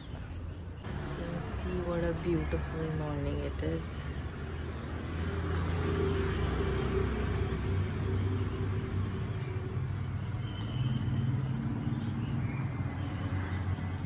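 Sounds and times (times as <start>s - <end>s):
faint engine hum: 0.0s - 14.0s
road traffic rumble: 0.0s - 14.0s.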